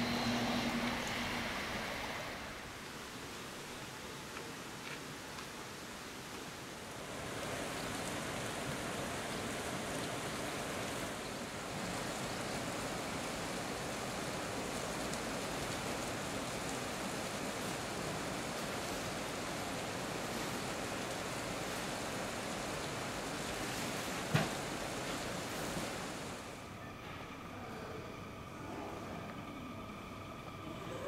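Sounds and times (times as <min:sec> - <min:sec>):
river running over rapids: 0:00.0 - 0:26.7.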